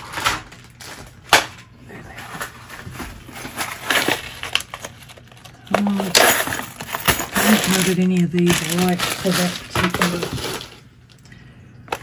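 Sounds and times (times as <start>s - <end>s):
plastic bags crinkling: 0.0s - 11.3s.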